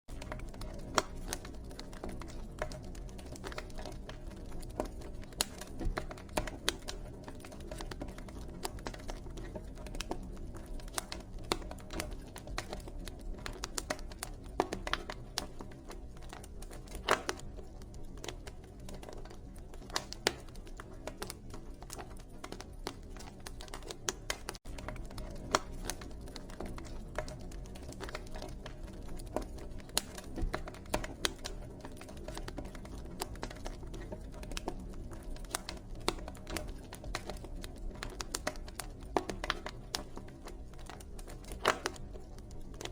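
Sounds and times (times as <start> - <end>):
low rumble of flames: 0.1 - 42.9
wood fire crackling: 0.1 - 42.9.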